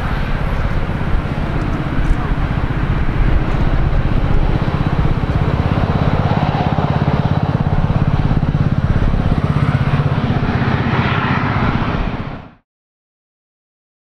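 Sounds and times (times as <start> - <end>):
jet engines rumbling: 0.0 - 12.6.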